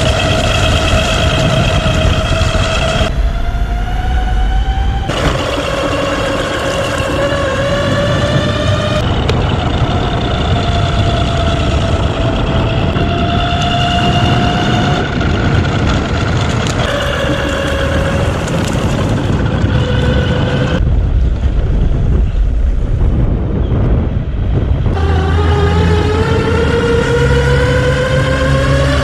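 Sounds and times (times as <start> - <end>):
pitched whine: 0.0 - 29.0
vehicle engine rumble: 0.0 - 29.0.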